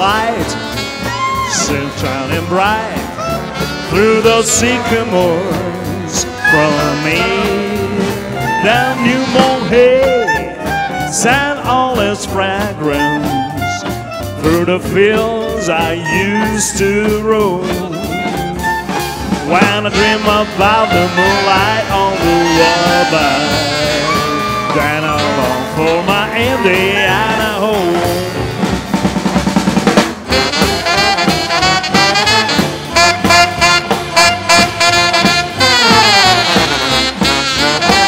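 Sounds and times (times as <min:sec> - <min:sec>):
live swing band playing: 0:00.0 - 0:38.0.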